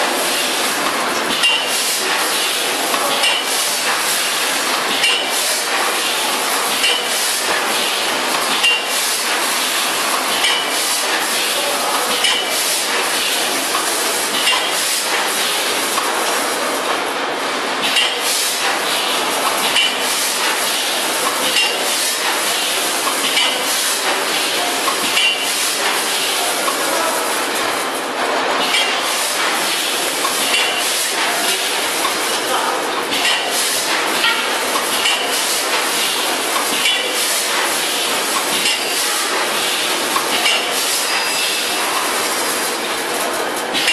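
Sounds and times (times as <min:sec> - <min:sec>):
packaging machine metallic clatter: 0:00.0 - 0:17.2, 0:17.8 - 0:43.9.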